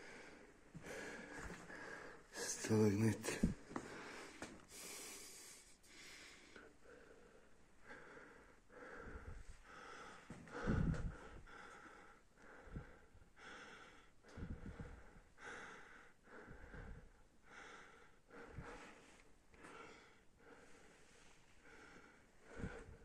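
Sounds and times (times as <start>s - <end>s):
person breathing heavily: 0.0s - 23.0s.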